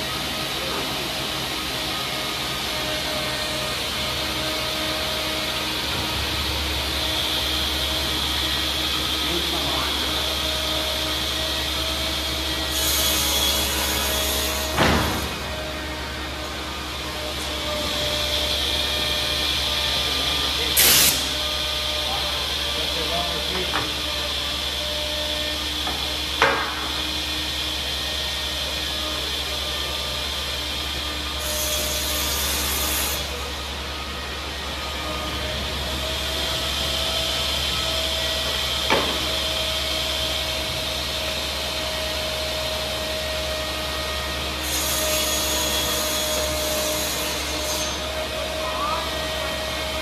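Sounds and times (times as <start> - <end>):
table saw cutting wood: 0.0 - 50.0.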